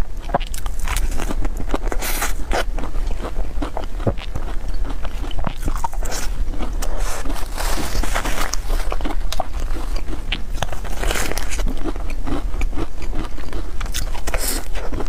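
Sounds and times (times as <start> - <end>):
biting and chewing pastry: 0.0 - 15.0.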